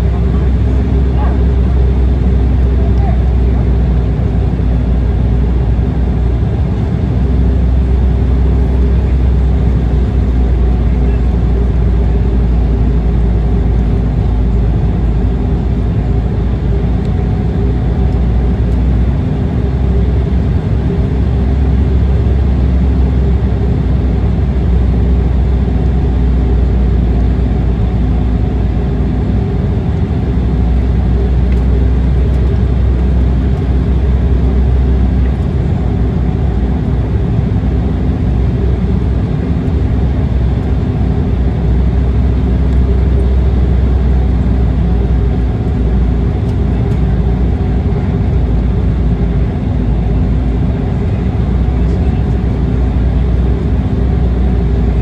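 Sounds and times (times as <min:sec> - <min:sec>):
airliner cabin rumble: 0:00.0 - 0:55.0
faint engine tones: 0:00.0 - 0:55.0.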